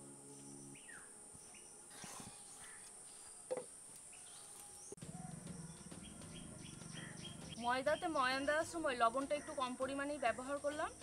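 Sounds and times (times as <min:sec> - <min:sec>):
bird chirps: 0:00.3 - 0:09.9.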